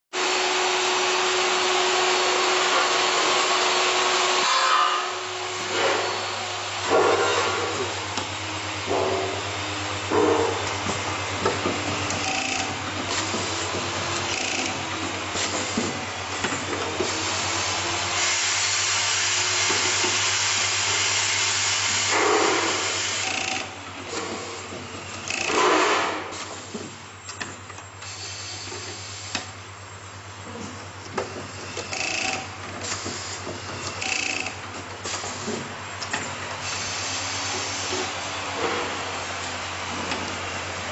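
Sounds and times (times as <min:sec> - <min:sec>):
assembly machine whirring hiss: 0:01.1 - 0:27.0, 0:28.0 - 0:29.6, 0:31.2 - 0:40.7.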